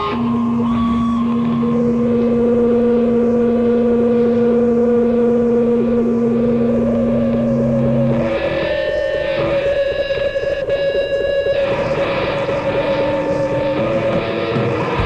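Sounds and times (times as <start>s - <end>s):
distorted guitar drone: 0.0s - 15.0s
rough buzzing rumble: 0.0s - 15.0s.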